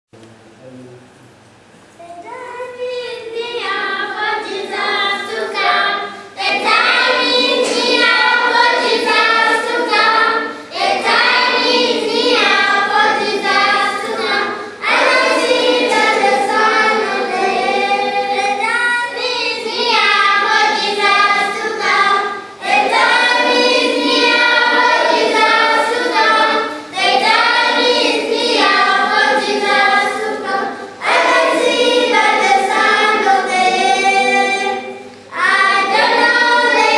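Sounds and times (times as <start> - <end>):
children's choir singing: 2.1 - 36.9.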